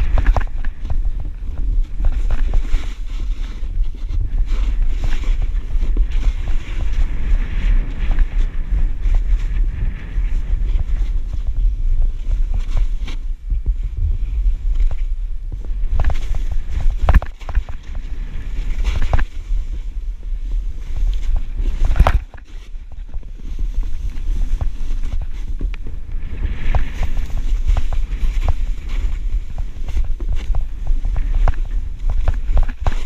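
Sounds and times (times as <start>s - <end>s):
snowboard scraping through snow: 0.0s - 33.0s
wind buffeting microphone: 0.0s - 33.0s.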